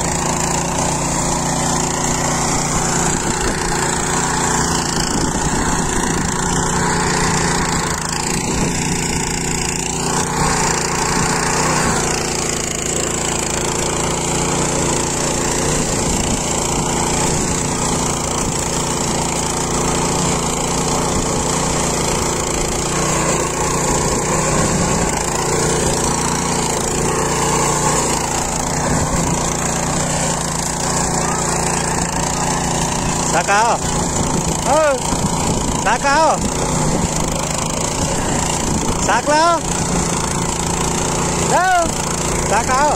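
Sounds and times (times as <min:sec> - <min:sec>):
tiller engine running: 0:00.0 - 0:42.9
tines churning soil: 0:00.0 - 0:42.9.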